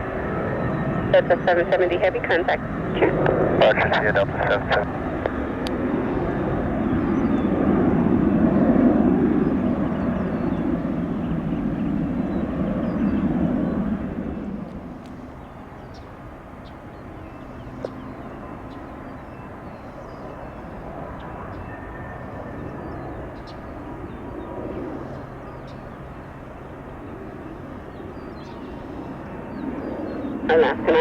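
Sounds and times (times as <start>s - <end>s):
distant jet engine rumble: 0.0s - 31.0s.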